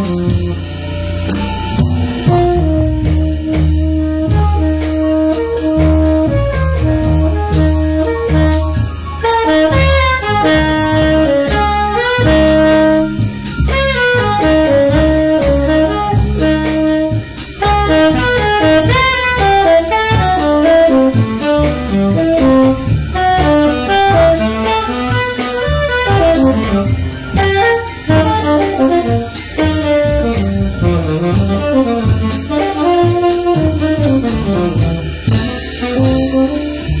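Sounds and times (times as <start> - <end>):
drums: 0.0 - 37.0
tenor saxophone jazz solo: 0.0 - 37.0
upright bass: 0.0 - 37.0.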